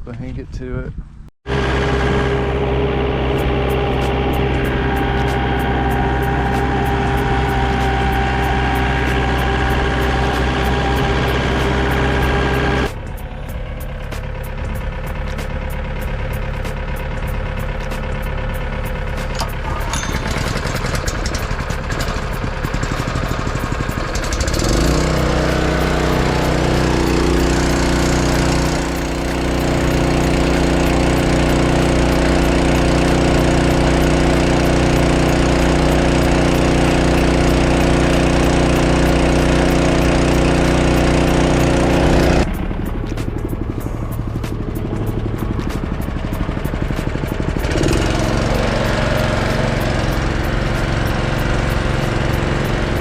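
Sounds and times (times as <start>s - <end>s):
tractor engine running: 1.5s - 53.0s.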